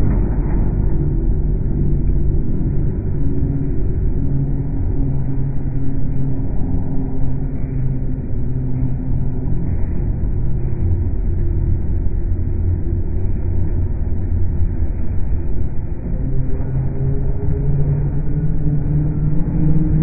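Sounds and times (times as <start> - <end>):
droning hum: 0.0 - 20.0
low rumble: 0.0 - 20.0.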